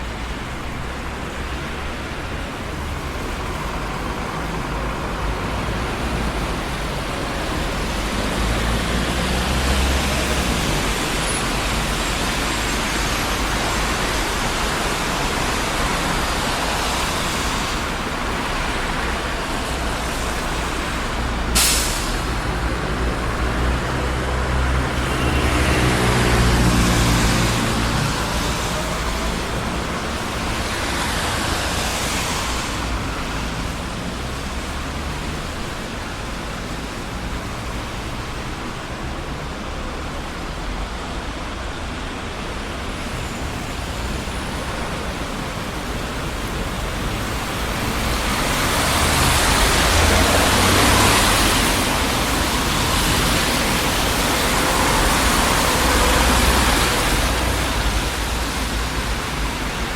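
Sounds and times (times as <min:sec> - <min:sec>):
city street traffic: 0:00.0 - 0:59.9
vehicles passing close by: 0:00.0 - 0:59.9.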